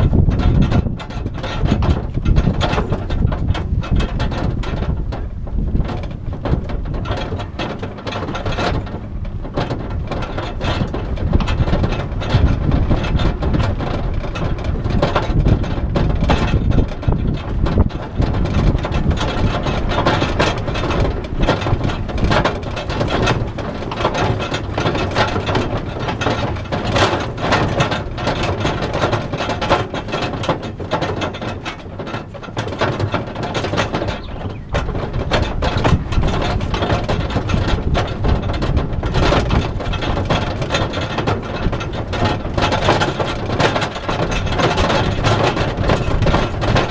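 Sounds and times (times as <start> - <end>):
bike rack rattling: 0.0 - 46.9
vehicle running and road noise: 0.0 - 46.9.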